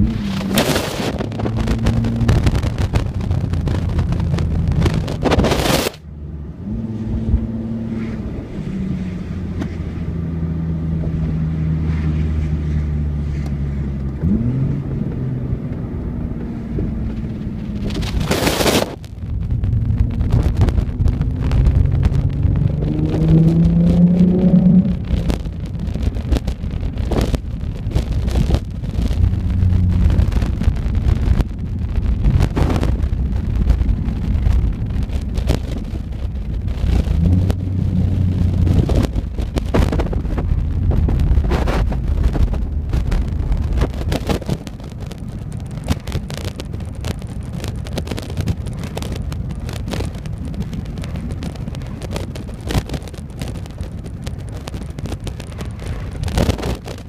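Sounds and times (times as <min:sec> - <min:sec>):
car exhaust drone: 0:00.0 - 0:57.0
wind buffeting on microphone: 0:00.0 - 0:57.0.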